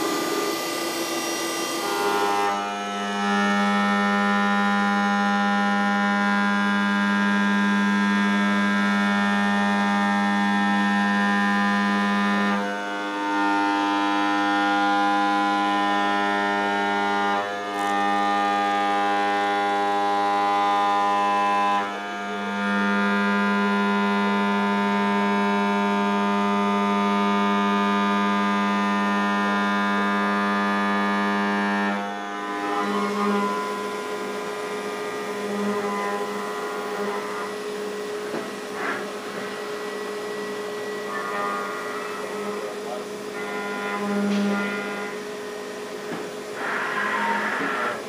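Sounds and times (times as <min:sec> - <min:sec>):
milling machine cutting whine: 0:00.0 - 0:48.0.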